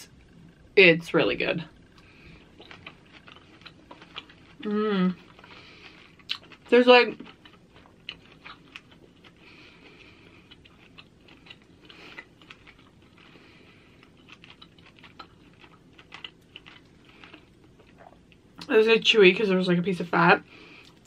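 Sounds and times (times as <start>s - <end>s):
faint chewing: 1.8s - 18.7s, 20.5s - 21.0s.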